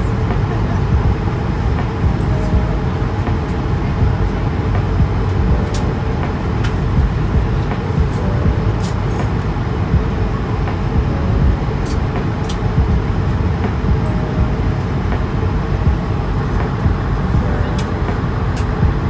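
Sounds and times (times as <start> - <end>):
airliner cabin noise: 0.0 - 19.0.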